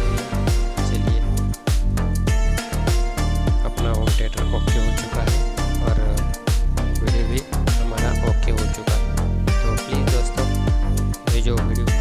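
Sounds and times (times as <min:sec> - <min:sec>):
deep kick drum: 0:00.0 - 0:12.0
upbeat dance music: 0:00.0 - 0:12.0.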